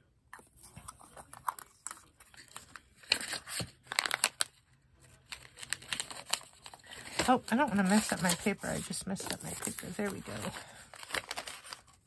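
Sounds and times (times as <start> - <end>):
plastic pouch crackling: 1.4 - 4.6, 5.2 - 12.0.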